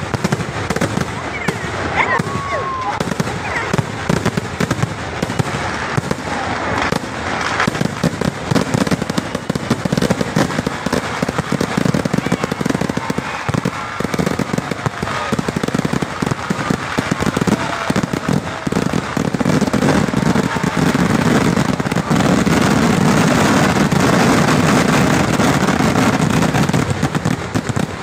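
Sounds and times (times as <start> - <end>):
fireworks barrage: 0.0 - 28.0.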